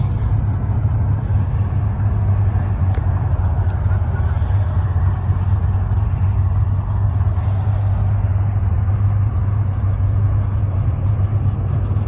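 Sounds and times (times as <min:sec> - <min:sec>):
street noise: 0:00.0 - 0:12.0
vehicle engine drone: 0:00.0 - 0:12.0.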